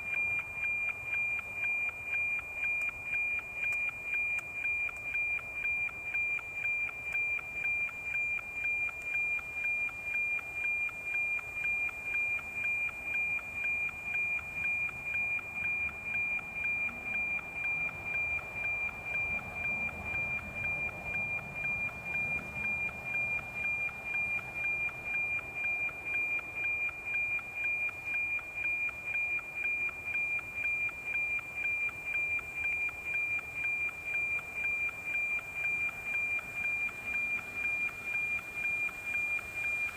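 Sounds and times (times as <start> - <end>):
high-pitched tone with ticking: 0.0 - 39.9.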